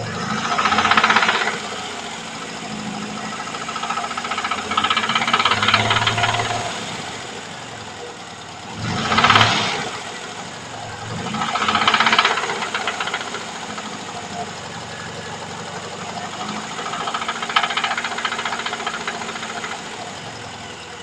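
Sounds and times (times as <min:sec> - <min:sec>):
rapid engine knock: 0:00.0 - 0:20.9
petrol engine revving: 0:00.0 - 0:21.0.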